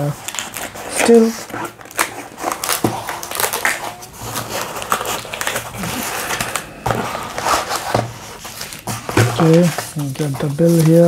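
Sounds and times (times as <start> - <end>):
cardboard and bubble wrap rustling: 0.0 - 11.0.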